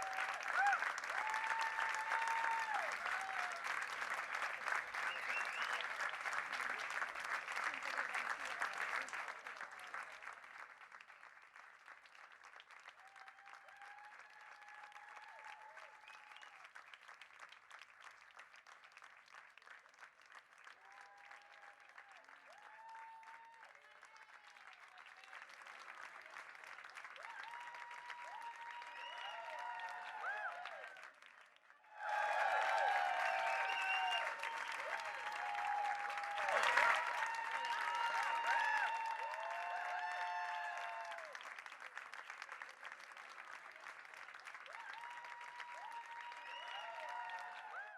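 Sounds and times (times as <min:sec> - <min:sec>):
people cheering: 0:00.0 - 0:10.3, 0:12.9 - 0:16.7, 0:20.7 - 0:31.2, 0:31.8 - 0:47.9
audience clapping: 0:00.0 - 0:47.9.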